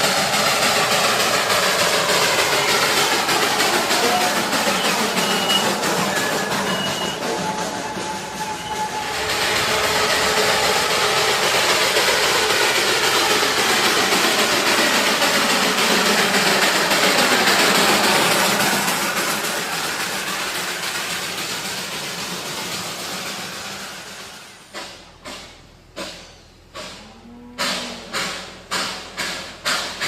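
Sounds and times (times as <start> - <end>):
toy train rattle and rumble: 0.0 - 30.0.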